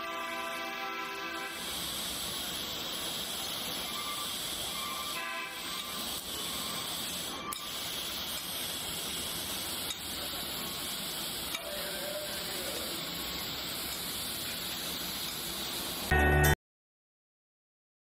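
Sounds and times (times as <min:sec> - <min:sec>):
welding arc hissing: 0:00.0 - 0:16.6.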